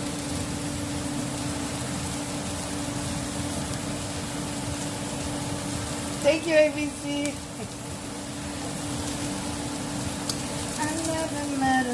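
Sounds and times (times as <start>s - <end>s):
mushrooms sizzling in a pan: 0.0s - 11.9s
steady hum: 0.0s - 11.9s.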